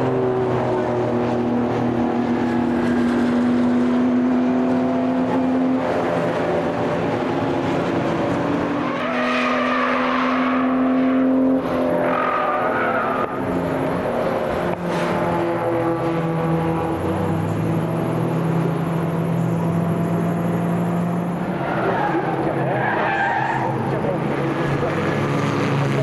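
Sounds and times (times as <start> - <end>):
race car engines running: 0.0 - 26.0.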